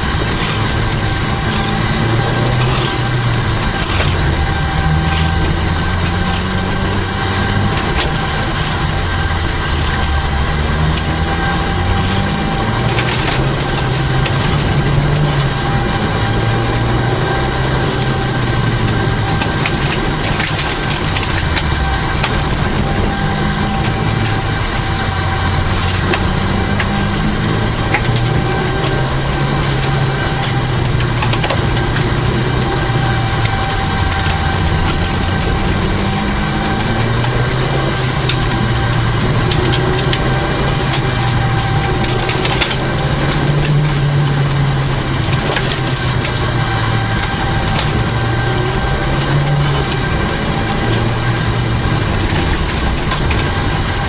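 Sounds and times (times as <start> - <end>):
rally car engine revving: 0.0 - 54.0
road and tyre noise: 0.0 - 54.0.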